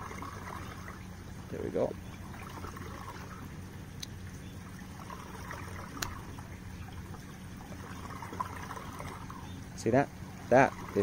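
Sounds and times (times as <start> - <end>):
low steady hum: 0.0 - 11.0
trickling water: 0.0 - 11.0.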